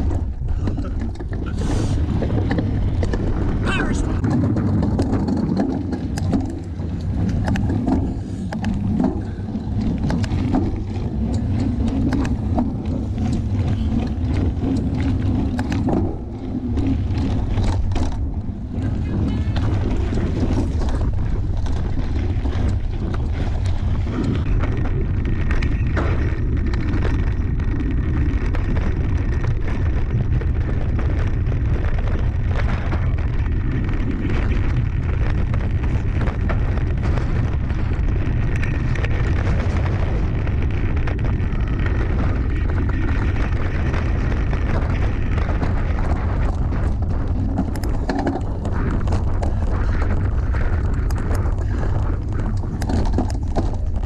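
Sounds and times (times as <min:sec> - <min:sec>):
bike knocking and rattling: 0:00.0 - 0:54.0
tyres on gravel and dirt: 0:00.0 - 0:54.0
wind buffeting microphone: 0:00.0 - 0:54.0.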